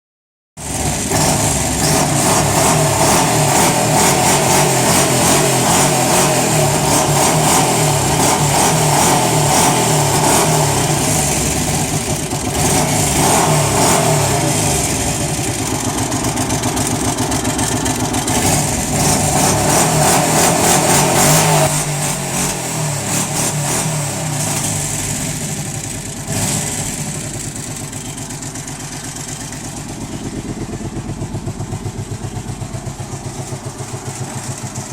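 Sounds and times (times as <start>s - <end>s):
atv engine running: 0.6s - 34.9s
engine clattering: 0.6s - 34.9s.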